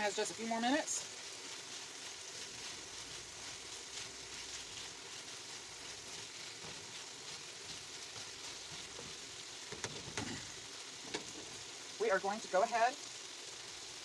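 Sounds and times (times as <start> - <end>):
chicken sizzling in a pan: 0.0 - 14.0.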